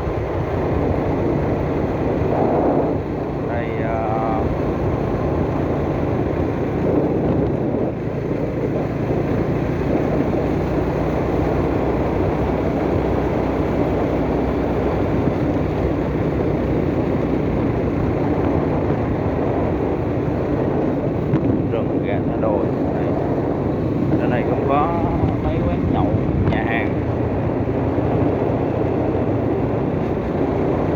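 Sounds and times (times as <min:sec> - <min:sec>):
vehicle engine and road noise: 0:00.0 - 0:30.9.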